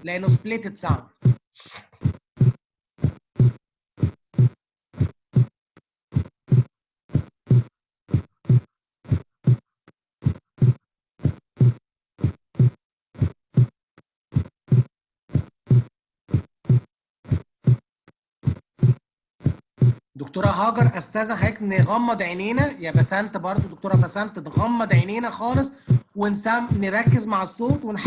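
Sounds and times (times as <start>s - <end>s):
heartbeat lub-dub thuds: 0.2s - 1.4s, 2.0s - 9.6s, 10.2s - 28.0s.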